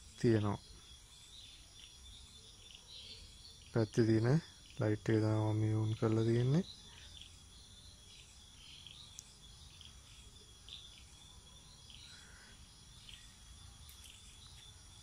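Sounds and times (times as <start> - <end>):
crickets chirping: 0.0 - 15.0
thin high insect trill: 0.0 - 15.0.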